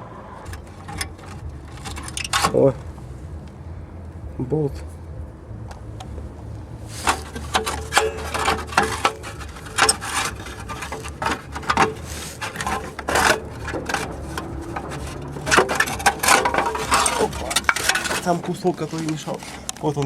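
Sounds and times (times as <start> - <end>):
plastic scraping and rubbing: 0.4 - 3.6, 5.7 - 20.0.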